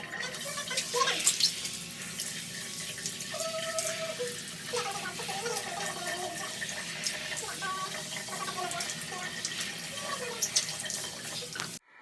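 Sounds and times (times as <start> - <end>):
water running from a tap: 0.0 - 11.8.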